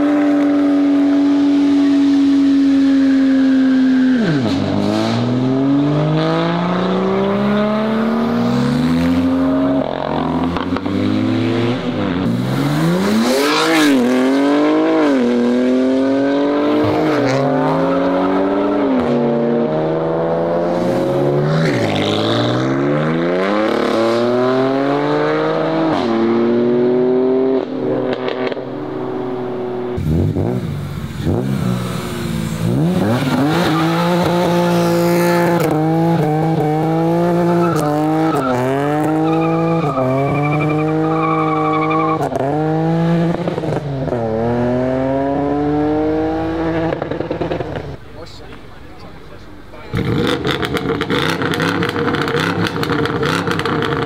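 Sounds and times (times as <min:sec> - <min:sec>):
car engines accelerating hard: 0:00.0 - 0:54.0
engine revving: 0:00.0 - 0:54.0.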